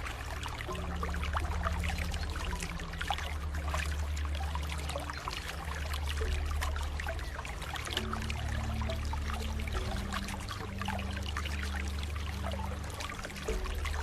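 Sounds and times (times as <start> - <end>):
soft sustained music tones: 0.0 - 14.0
water trickling and splashing: 0.0 - 14.0.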